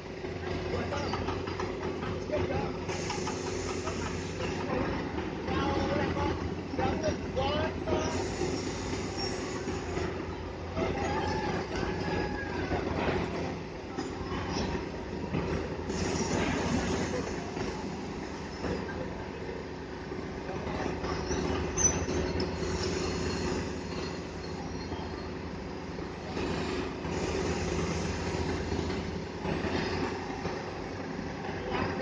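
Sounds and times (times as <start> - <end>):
crane diesel engine rumbling: 0.0 - 32.0.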